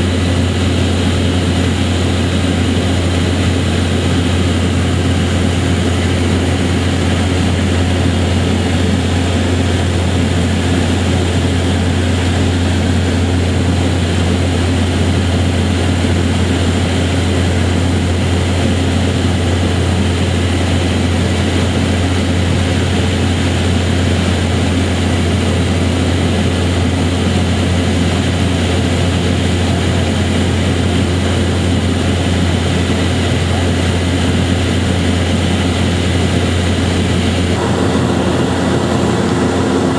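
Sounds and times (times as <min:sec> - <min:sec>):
steady low droning hum: 0:00.0 - 0:39.9.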